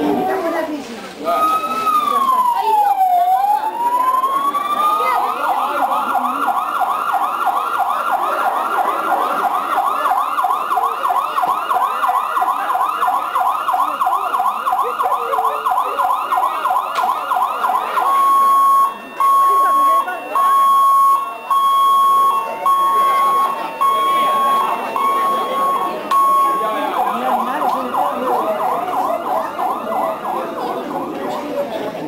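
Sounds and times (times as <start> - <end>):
police siren wailing and yelping: 1.2 - 31.2.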